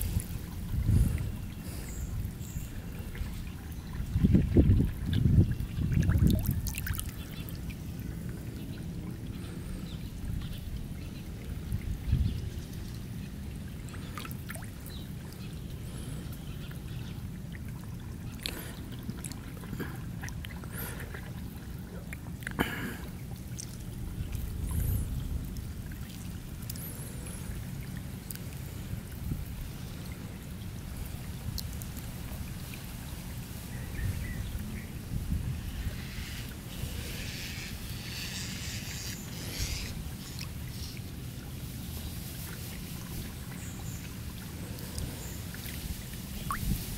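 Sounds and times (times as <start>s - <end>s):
moving water: 0.0s - 46.9s
pond water splashing: 0.0s - 46.9s.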